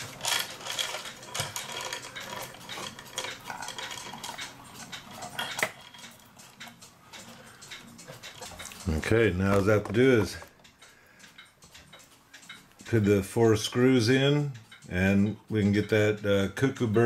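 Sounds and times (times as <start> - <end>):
clock chains jingling: 0.0 - 17.0.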